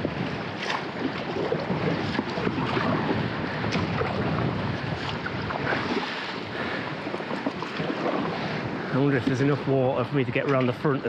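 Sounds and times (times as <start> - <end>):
water lapping against kayak: 0.0 - 11.0
wind rumble on microphone: 0.0 - 11.0.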